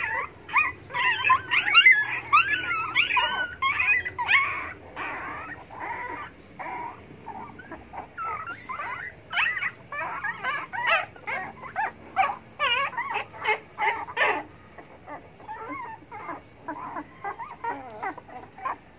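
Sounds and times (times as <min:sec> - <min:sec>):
puppies whimpering: 0:00.0 - 0:18.9.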